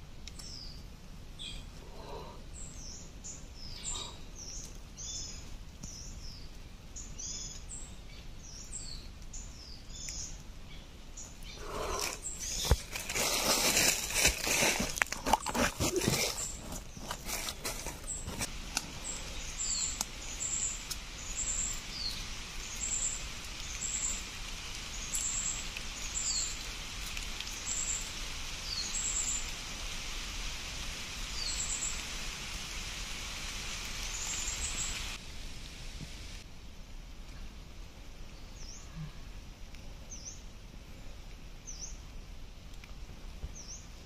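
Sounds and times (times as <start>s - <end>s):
forest ambience hiss: 0.0s - 44.0s.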